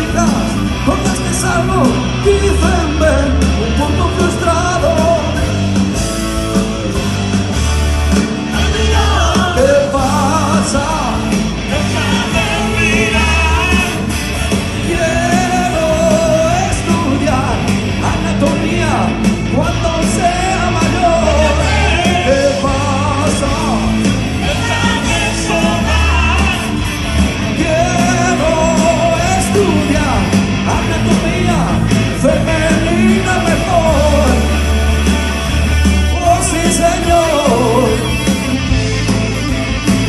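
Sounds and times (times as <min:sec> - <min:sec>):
live rock band with singer: 0:00.0 - 0:40.0.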